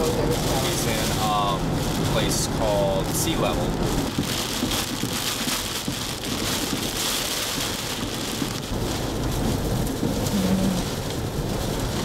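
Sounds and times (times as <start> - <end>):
wind-driven rain rushing hiss: 0.0 - 12.0.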